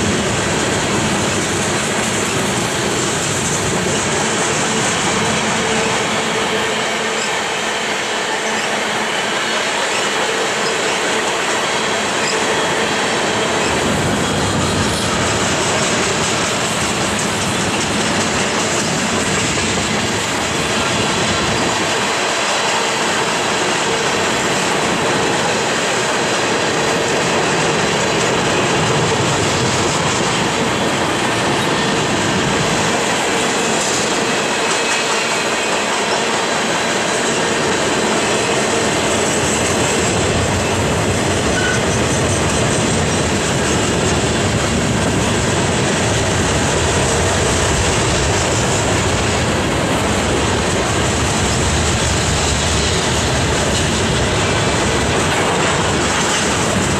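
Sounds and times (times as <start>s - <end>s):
train wheels rolling on rails: 0.0s - 56.9s.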